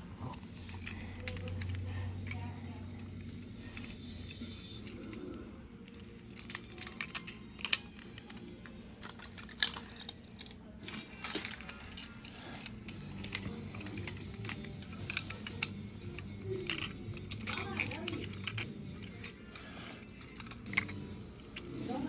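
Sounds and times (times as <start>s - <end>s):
low steady hum: 0.0s - 22.0s
small hard objects clicking: 3.3s - 21.9s.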